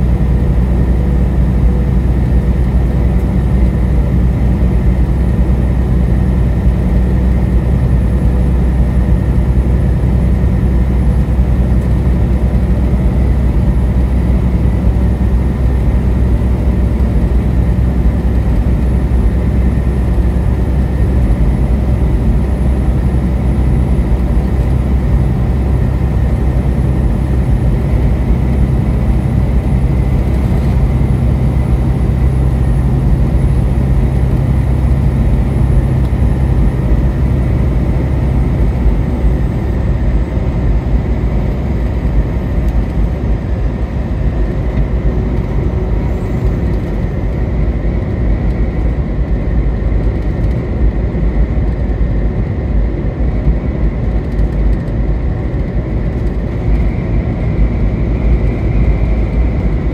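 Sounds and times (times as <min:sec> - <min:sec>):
road and engine rumble: 0:00.0 - 0:59.9.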